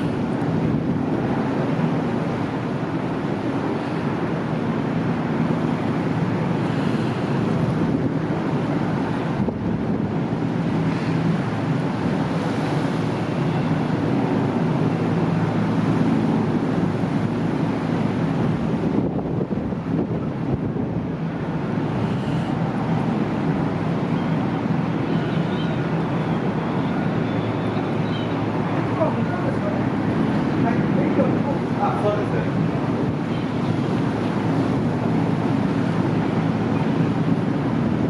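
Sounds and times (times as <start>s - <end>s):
ferry diesel engines droning: 0.0s - 19.2s, 19.8s - 38.0s
wind on microphone: 0.0s - 38.0s.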